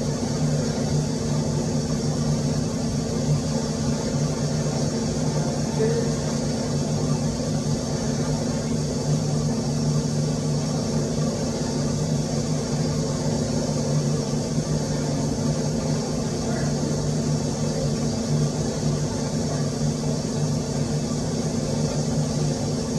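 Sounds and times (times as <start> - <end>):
low mechanical hum: 0.0 - 22.9.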